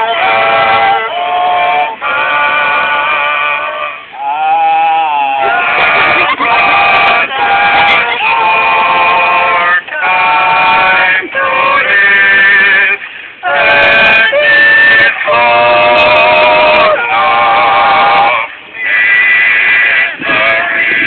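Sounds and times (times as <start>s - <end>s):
voices singing through megaphones: 0.0s - 21.0s.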